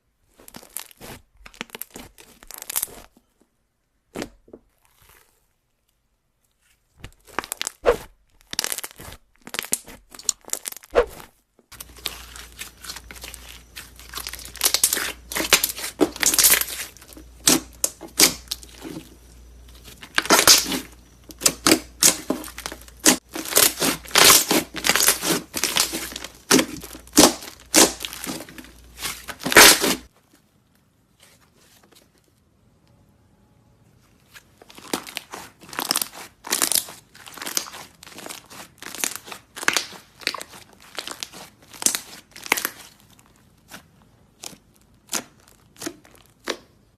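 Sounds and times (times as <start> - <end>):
slime tearing and crackling: 0.3 - 3.2, 7.1 - 30.1, 34.6 - 46.9.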